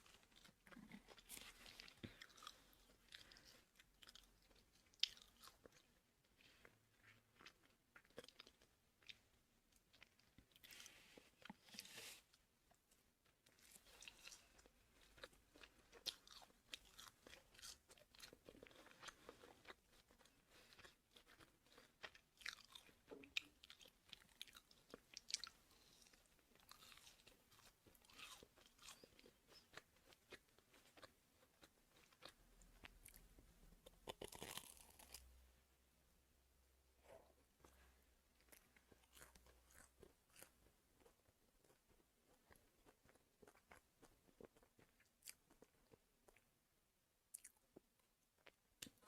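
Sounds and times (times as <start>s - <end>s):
person chewing crunchy food: 0.0s - 12.4s, 13.2s - 35.3s, 37.1s - 46.5s, 47.3s - 49.0s.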